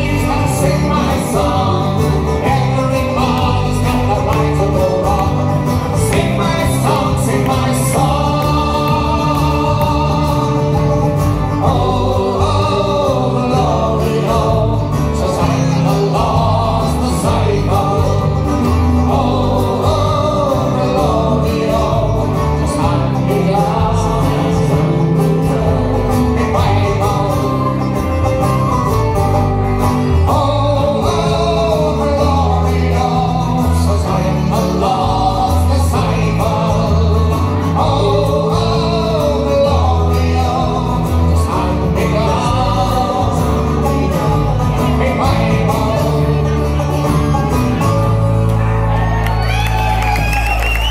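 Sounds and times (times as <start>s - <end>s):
person singing with backing voices: 0.0s - 28.5s, 29.8s - 46.8s
folk band playing: 0.0s - 50.9s
pulsing bass line: 0.0s - 50.9s.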